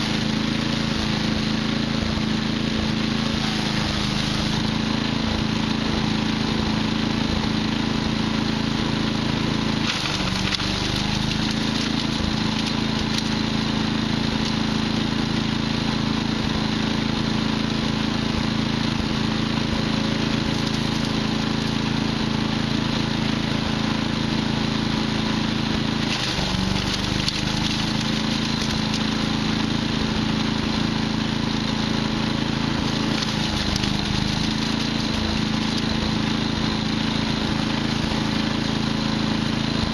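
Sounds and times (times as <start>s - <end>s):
wood chipper engine chipping wood: 0.0s - 39.9s.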